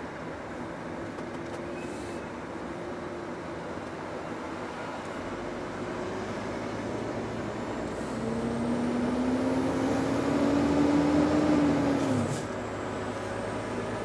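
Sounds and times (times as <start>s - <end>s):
lorry diesel engine from cab: 0.0s - 14.0s.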